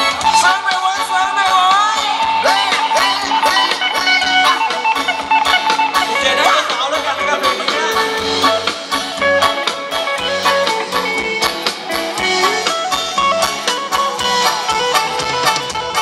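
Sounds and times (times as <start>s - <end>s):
drum kit beat: 0.0s - 16.0s
guitar melody: 0.0s - 16.0s.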